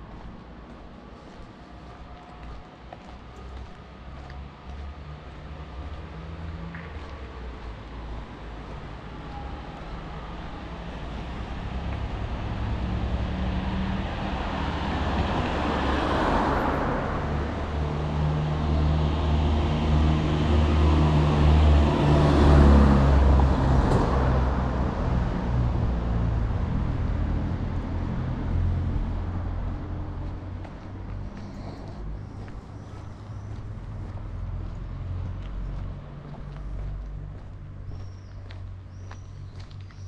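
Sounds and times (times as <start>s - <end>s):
low engine hum: 0.0s - 40.0s
vehicles driving past: 0.0s - 40.0s.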